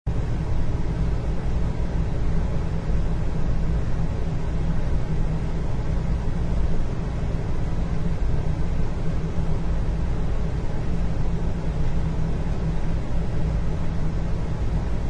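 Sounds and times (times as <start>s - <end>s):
steady low rumble: 0.1s - 15.0s.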